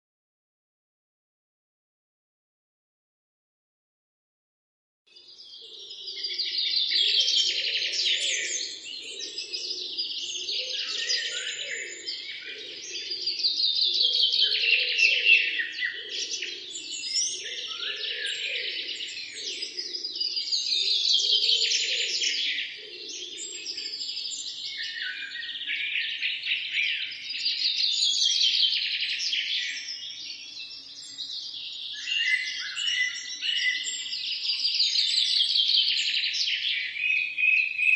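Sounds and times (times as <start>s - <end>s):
songbirds chirping and singing: 5.1s - 37.9s
low repeated bird call: 5.2s - 37.9s.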